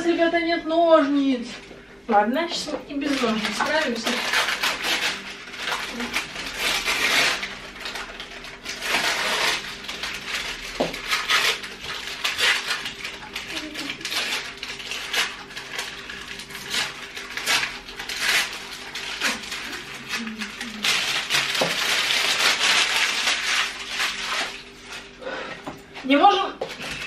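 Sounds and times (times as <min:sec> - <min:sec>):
parchment paper crinkling and tearing: 0:02.9 - 0:25.2, 0:26.6 - 0:27.0.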